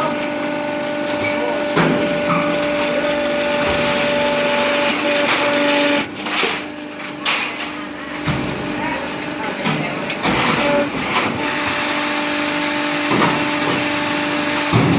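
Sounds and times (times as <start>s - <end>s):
press machine humming: 0.0s - 14.9s.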